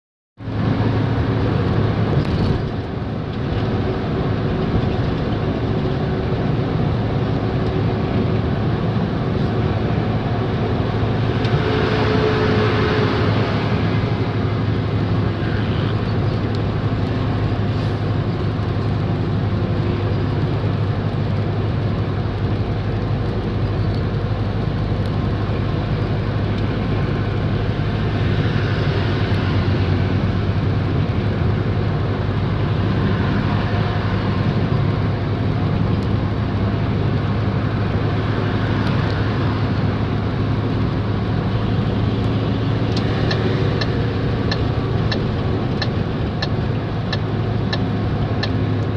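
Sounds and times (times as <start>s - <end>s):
engine drone in vehicle cab: 0.4s - 48.9s
road noise: 0.4s - 48.9s.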